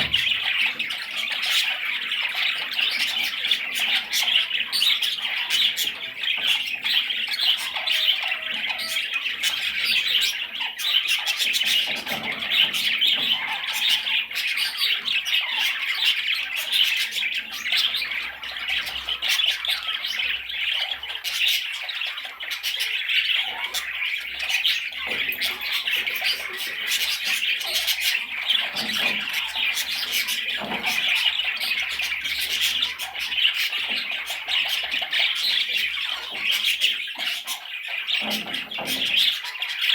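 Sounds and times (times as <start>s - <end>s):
budgerigar chattering and warbling: 0.0s - 39.9s.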